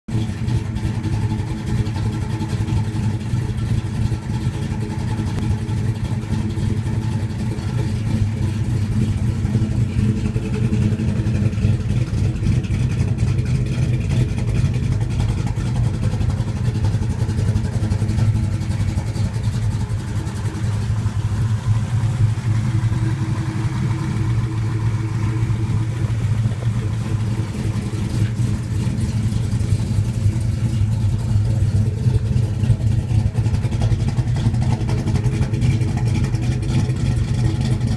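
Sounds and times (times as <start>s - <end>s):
car engine lopey idle: 0.1s - 37.9s.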